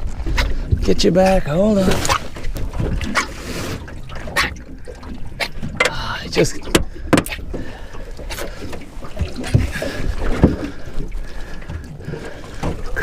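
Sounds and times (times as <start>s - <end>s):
knocks and scrapes against hull: 0.0s - 13.0s
wind rumbling on microphone: 0.0s - 13.0s.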